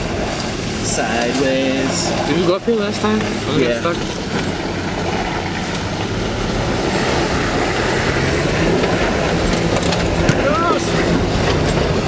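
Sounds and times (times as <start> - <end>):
truck engine running hard: 0.0 - 12.0.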